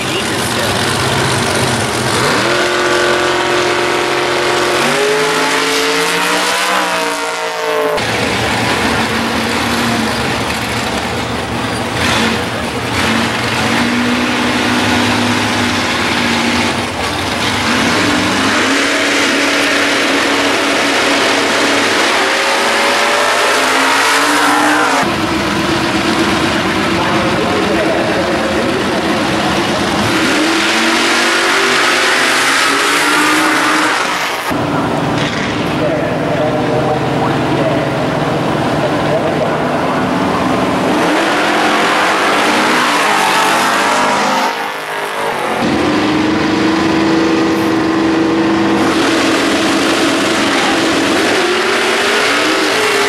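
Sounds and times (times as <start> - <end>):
cars launching and accelerating: 0.0 - 53.0
race car engines revving: 0.0 - 53.0.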